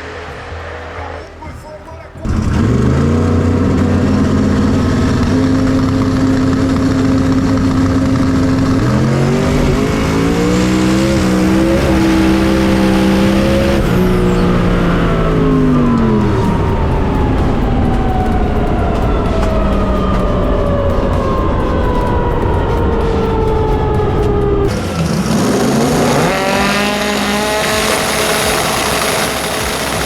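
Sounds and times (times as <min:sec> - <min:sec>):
racing car engine revving: 0:00.0 - 0:30.0.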